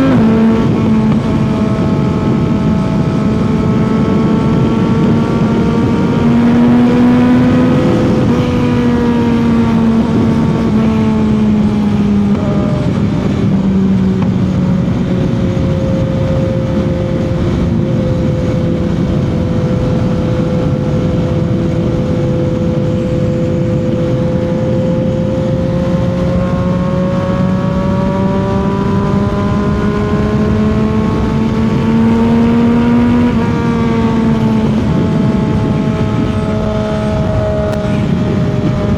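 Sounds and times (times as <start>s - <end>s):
motorcycle engine cruising: 0.0s - 38.9s
wind rush: 0.0s - 38.9s.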